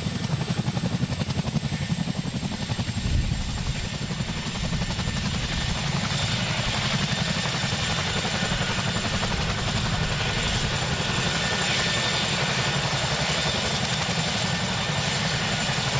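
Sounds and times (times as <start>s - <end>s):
helicopter rotor beating: 0.0s - 15.9s.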